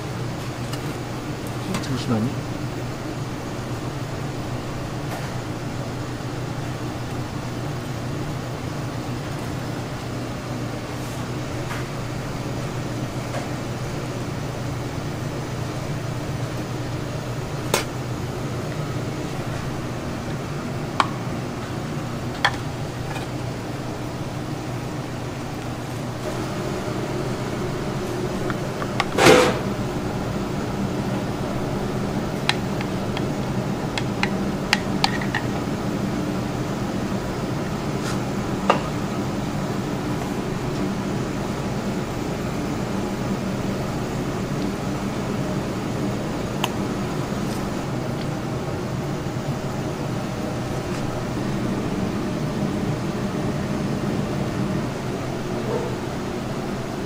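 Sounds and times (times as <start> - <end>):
kitchen fans humming: 0.0 - 57.0.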